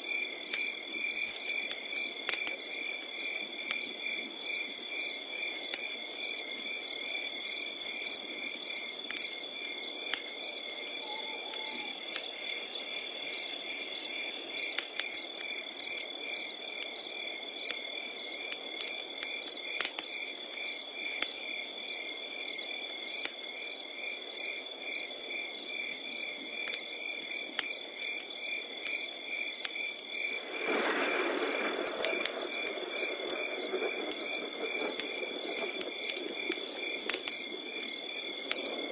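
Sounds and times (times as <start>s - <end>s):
crickets chirping: 0.0s - 38.9s
wood fire crackling and popping: 0.0s - 38.9s.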